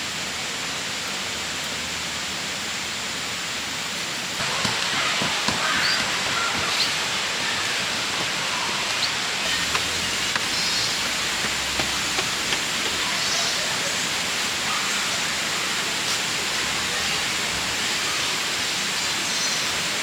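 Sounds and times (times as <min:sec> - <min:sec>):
river rushing: 0:00.1 - 0:20.0.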